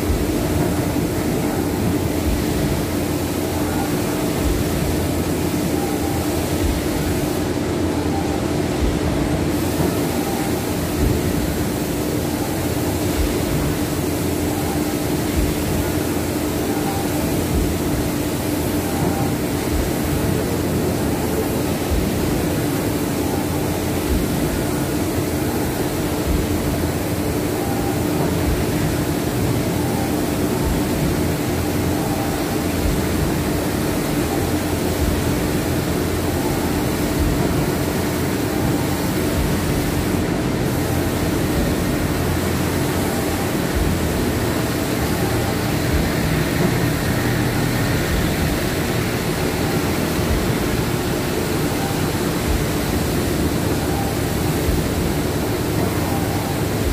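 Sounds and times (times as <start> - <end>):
machinery humming drone: 0.0 - 56.9.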